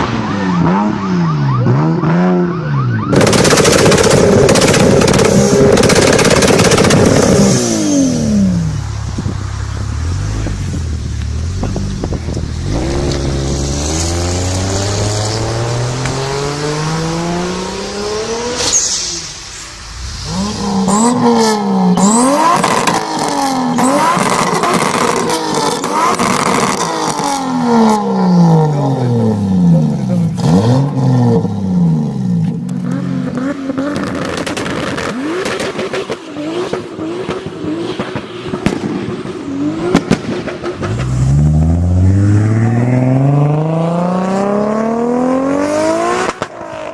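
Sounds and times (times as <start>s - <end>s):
car engine accelerating hard: 0.0s - 46.9s.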